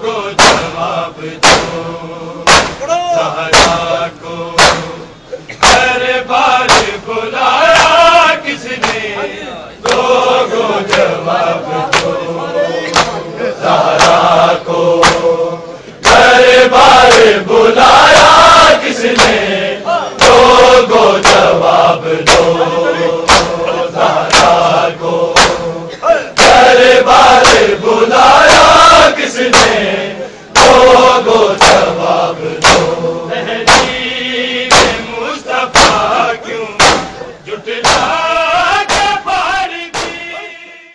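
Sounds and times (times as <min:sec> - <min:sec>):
male voices chanting: 0:00.0 - 0:40.9
sharp rhythmic strikes: 0:00.2 - 0:40.6.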